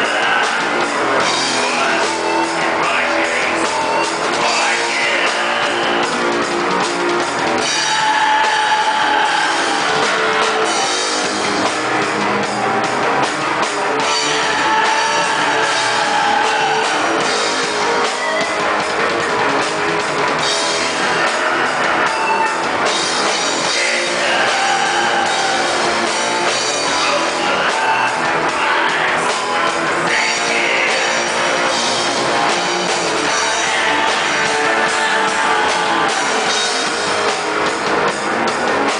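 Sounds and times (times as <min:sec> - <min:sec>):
black metal band playing: 0:00.0 - 0:38.9.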